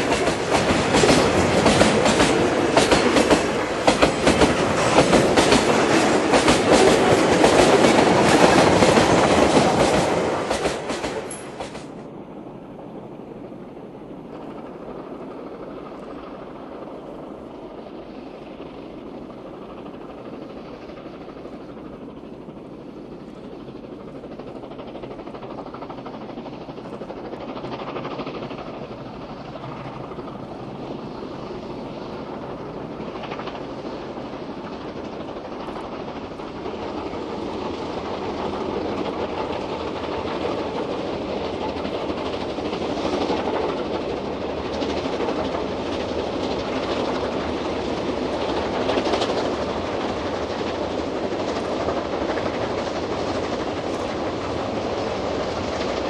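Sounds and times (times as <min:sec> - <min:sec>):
steam locomotives hauling train: 0:00.0 - 0:56.0.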